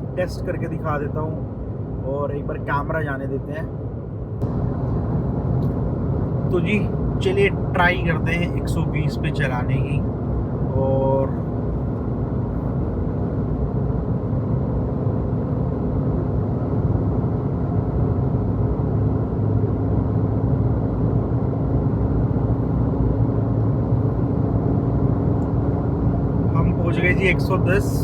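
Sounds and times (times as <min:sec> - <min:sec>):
car engine drone: 0:00.0 - 0:28.0
road noise inside car: 0:00.0 - 0:28.0.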